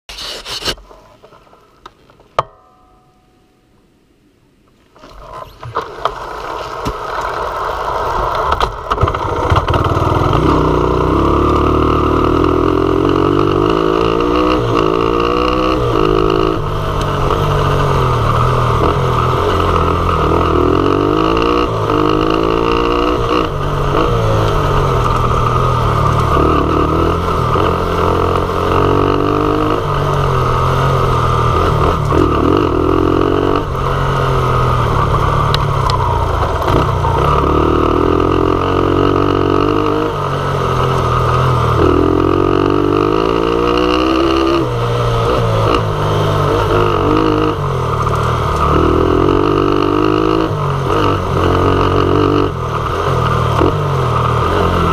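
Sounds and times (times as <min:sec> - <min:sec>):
wind and wheel noise: 0:04.7 - 0:42.0, 0:42.6 - 0:54.9
dirt bike engine revving: 0:09.1 - 0:54.9.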